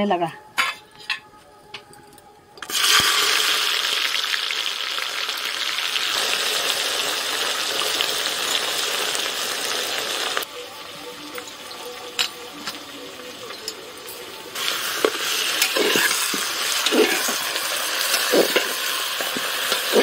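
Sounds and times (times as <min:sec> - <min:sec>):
onions sizzling in hot oil: 0:02.7 - 0:20.0.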